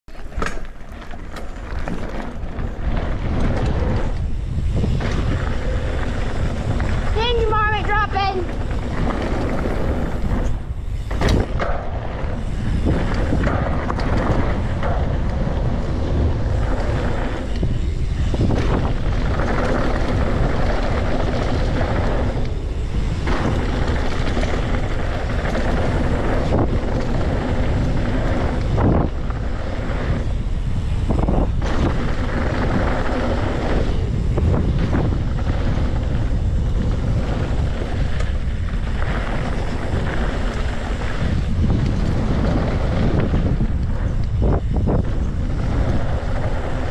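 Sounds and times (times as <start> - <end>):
bike tyres rumbling on dirt trail: 0.1 - 46.9
wind buffeting microphone: 0.2 - 46.9.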